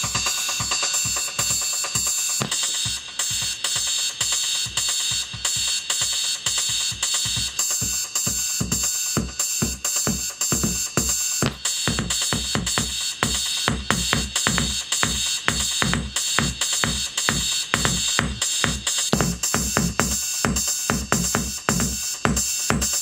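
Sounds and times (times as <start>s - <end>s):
electronic music through car speaker: 0.0s - 23.0s.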